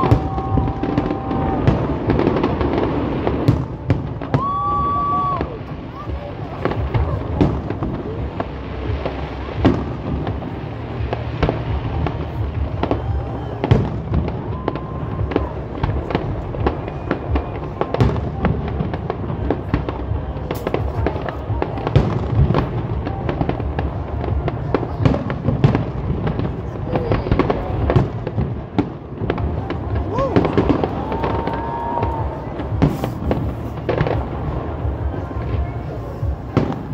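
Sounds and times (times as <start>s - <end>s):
fireworks bangs: 0.0s - 36.9s
fireworks crackling: 0.0s - 36.9s.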